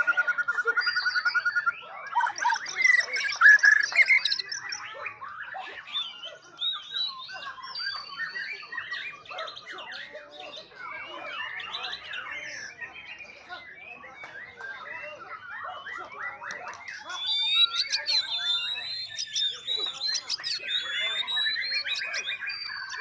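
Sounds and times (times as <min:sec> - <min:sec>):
other songbirds calling: 0:00.0 - 0:23.0
songbird singing whistles and chirps: 0:00.0 - 0:23.0.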